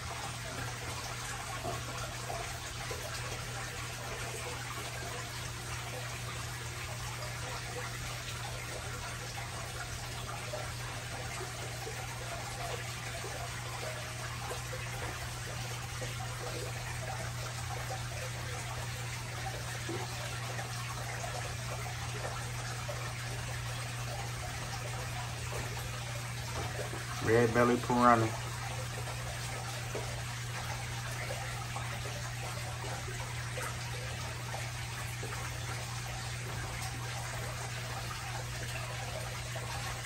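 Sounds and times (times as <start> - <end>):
water trickling: 0.0 - 40.0.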